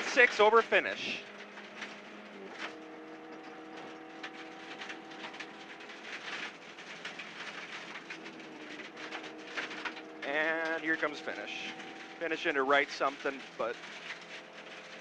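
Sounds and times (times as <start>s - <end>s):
gravel rattling against car: 0.0s - 15.0s
rally car engine from inside: 0.0s - 15.0s.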